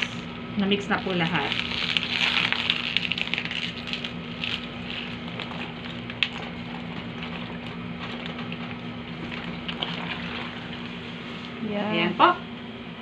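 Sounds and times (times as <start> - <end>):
plastic bag crinkling: 0.7 - 11.2.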